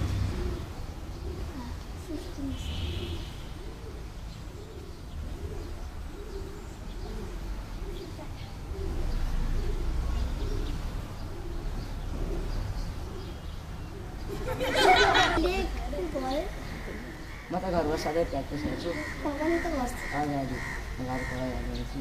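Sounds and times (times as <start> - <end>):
pigeon cooing: 0.0 - 22.0.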